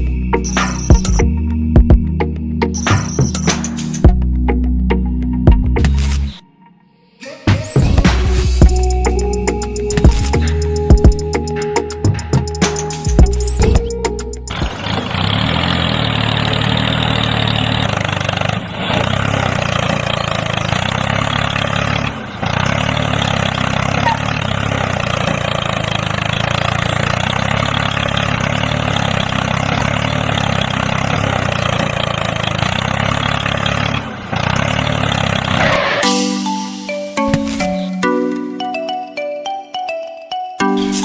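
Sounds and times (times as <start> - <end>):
tractor engine running: 0.0 - 6.1, 7.8 - 38.9.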